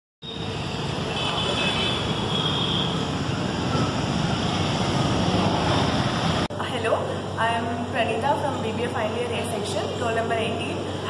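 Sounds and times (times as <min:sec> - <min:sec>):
road traffic rumble and hiss: 0:00.2 - 0:11.0.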